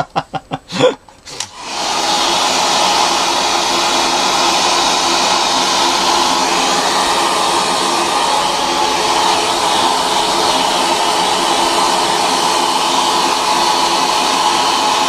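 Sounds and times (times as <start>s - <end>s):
hair dryer blowing: 1.2s - 15.0s.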